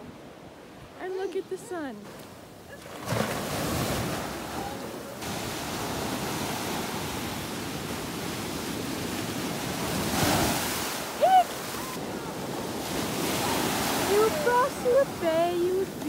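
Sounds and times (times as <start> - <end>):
ocean surf washing on shore: 0.0 - 16.0.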